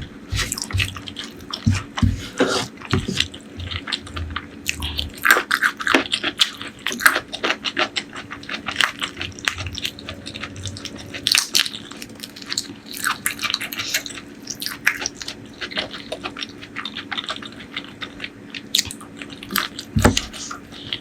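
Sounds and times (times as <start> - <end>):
faint steady hum: 0.0 - 21.0
wet chewing and lip-smacking: 0.4 - 2.0, 3.1 - 21.0.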